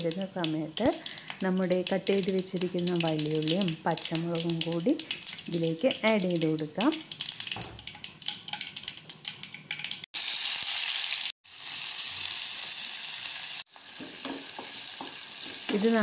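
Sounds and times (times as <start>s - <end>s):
onions sizzling in oil: 0.0s - 7.5s, 10.2s - 16.0s
seeds crackling in hot oil: 0.0s - 16.0s.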